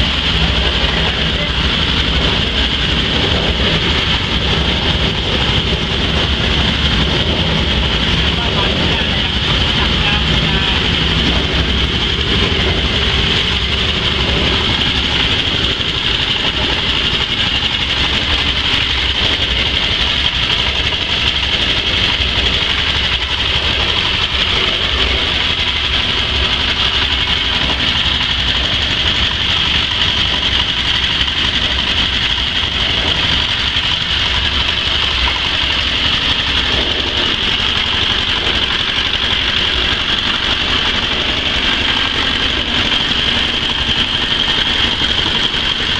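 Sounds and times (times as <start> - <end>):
diesel engine running steadily: 0.0 - 45.9.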